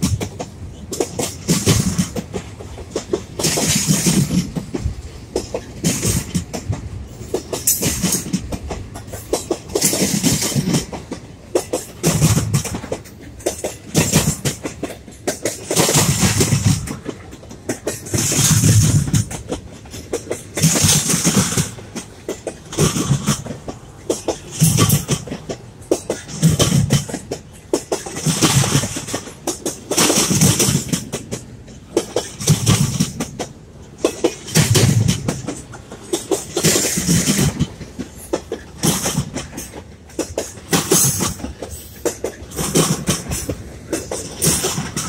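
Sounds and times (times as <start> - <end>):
train rumble: 0.0 - 45.0
train wheels clacking over rail joint: 0.0 - 45.0.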